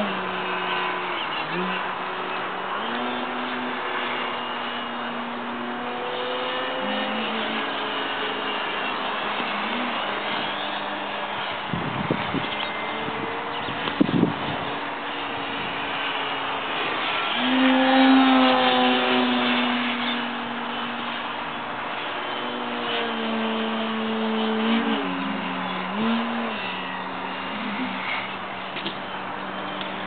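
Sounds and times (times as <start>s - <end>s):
model airplane motor droning: 0.0s - 30.0s.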